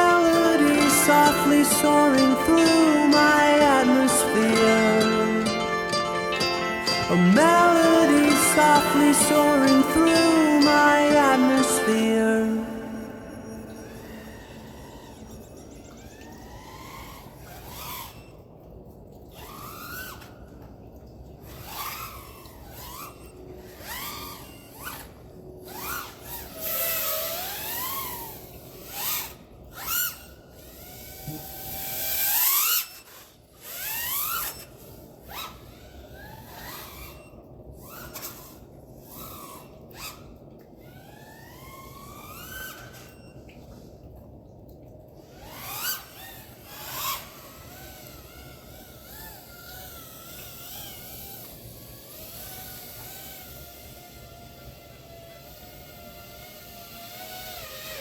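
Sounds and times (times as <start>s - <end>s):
quadcopter motors whining: 0.0s - 18.5s, 21.4s - 43.9s, 45.2s - 58.0s.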